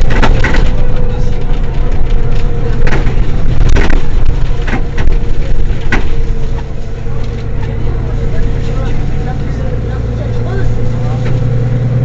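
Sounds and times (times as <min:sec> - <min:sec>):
bus diesel engine idling: 0:00.0 - 0:12.0
engine whine: 0:00.0 - 0:12.0.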